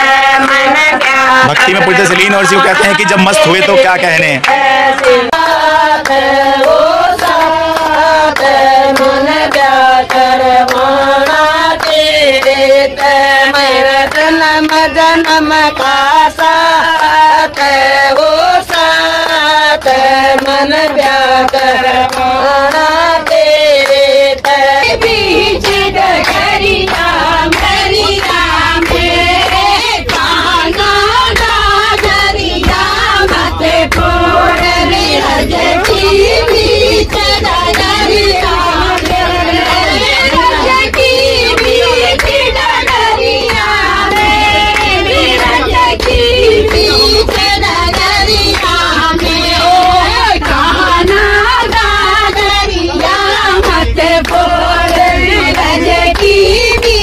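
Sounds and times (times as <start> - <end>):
women singing in unison: 0.0 - 3.8, 4.4 - 57.0
rhythmic hand clapping: 0.0 - 57.0.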